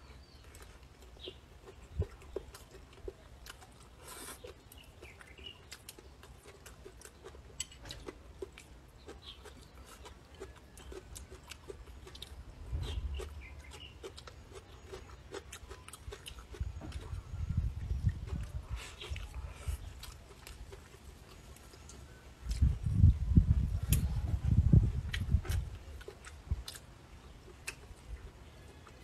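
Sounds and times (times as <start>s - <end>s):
chewing and mouth sounds: 0.2s - 29.0s.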